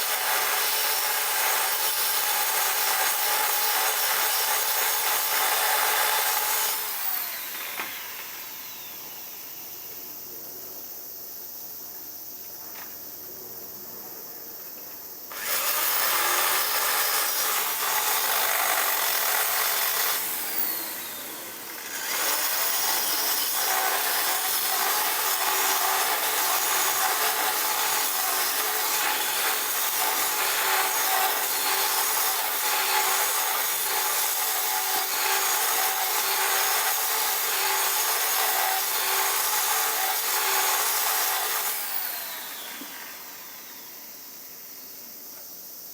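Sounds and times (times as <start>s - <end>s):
power tool rasping: 0.1s - 9.0s, 15.3s - 43.7s.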